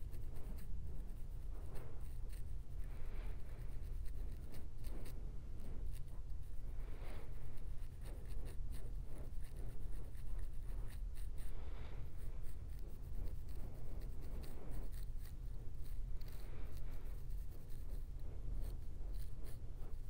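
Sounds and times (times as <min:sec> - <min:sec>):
comb scratching through hair: 0:00.0 - 0:20.0.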